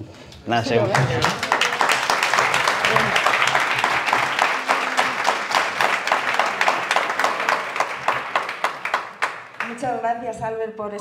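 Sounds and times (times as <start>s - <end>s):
audience applauding: 0.7s - 10.0s.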